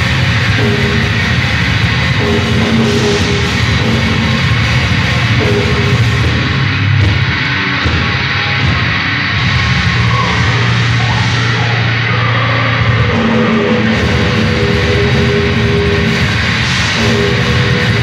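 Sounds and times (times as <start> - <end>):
heavy metal band playing live: 0.0 - 18.0.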